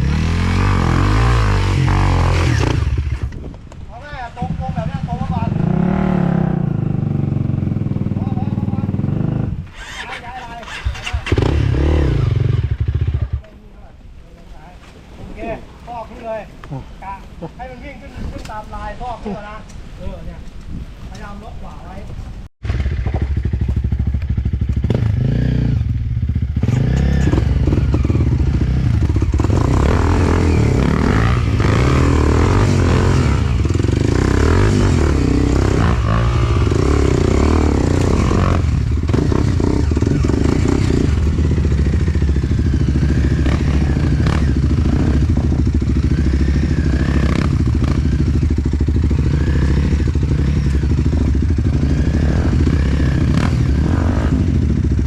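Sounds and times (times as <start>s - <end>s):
dirt bike engine revving: 0.0s - 3.3s, 4.4s - 13.4s, 22.6s - 55.0s.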